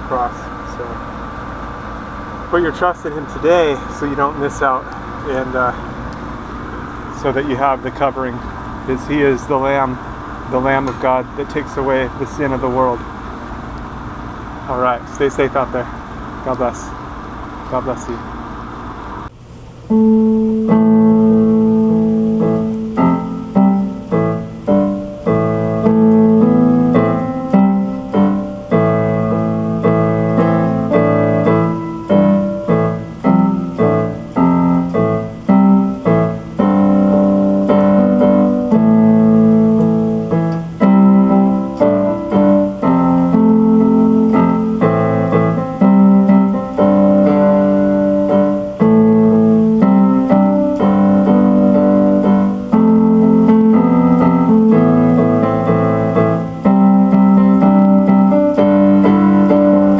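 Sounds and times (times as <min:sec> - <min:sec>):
keyboard piano chords: 0:00.0 - 0:59.9.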